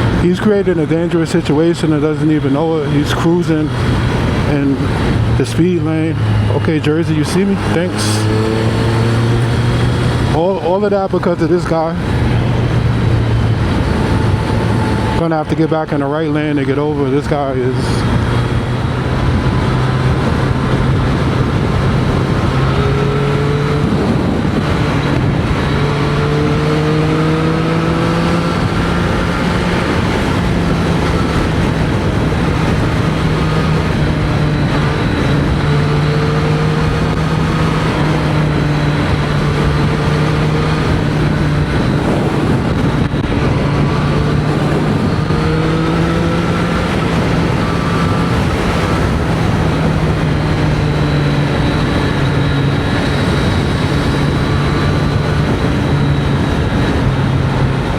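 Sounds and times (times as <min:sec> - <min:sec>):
motorcycle engine running: 0:00.0 - 0:57.9
wind noise: 0:00.0 - 0:57.9.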